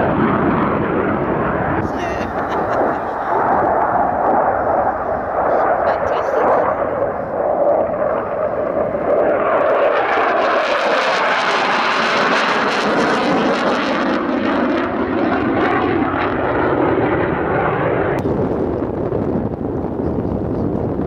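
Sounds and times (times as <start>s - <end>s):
fighter jet flying: 0.0s - 21.0s.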